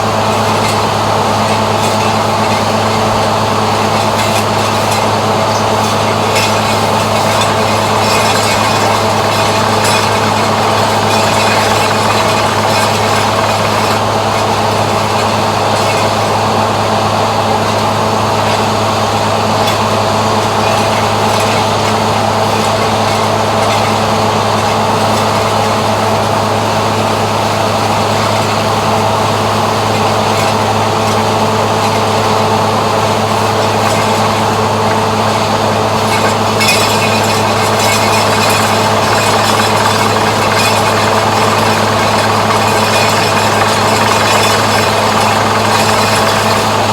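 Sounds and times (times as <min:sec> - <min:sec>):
heavy machine engine running: 0:00.0 - 0:46.9.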